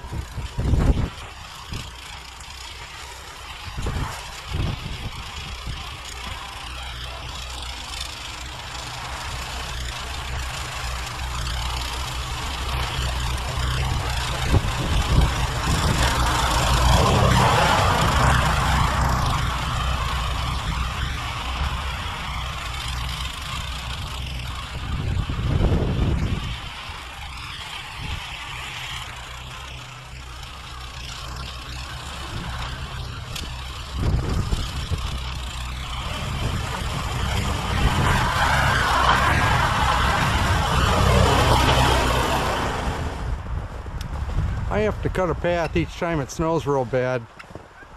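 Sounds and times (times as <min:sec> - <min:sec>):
snowblower engine running: 0:00.0 - 0:47.9.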